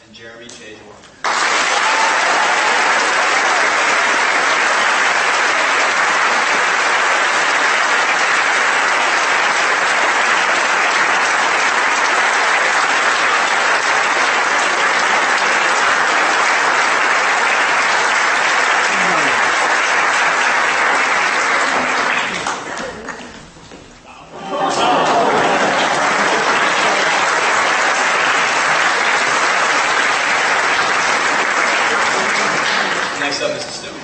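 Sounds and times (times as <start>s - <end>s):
audience applauding: 1.2s - 23.4s, 24.4s - 33.7s.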